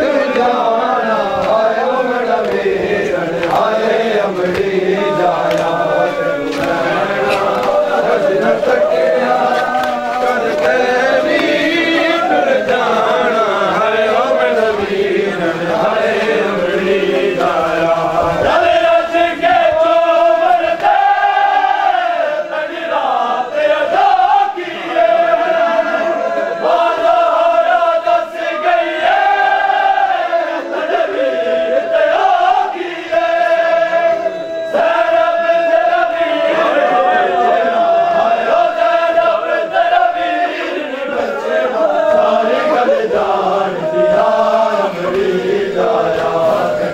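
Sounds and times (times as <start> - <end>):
men chanting a lament: 0.0 - 46.9.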